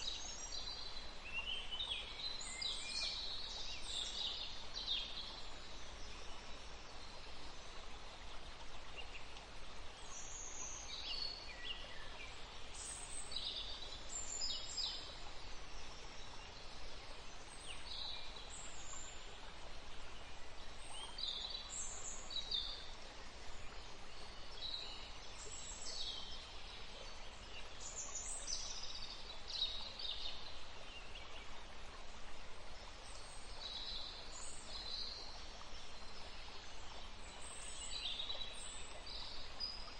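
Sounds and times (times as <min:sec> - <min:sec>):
river water flowing: 0:00.0 - 0:39.9
songbirds chirping: 0:00.0 - 0:39.9.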